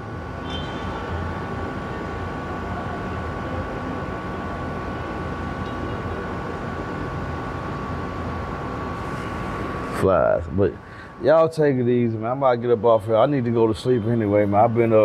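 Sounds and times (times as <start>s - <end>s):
city rumble: 0.0s - 15.0s.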